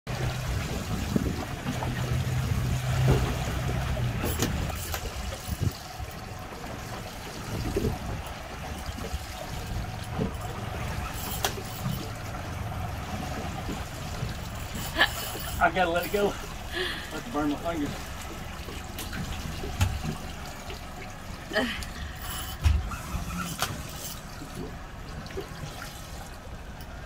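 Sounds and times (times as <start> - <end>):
boat engine humming: 0.1 - 27.0
water around hull: 0.1 - 27.0.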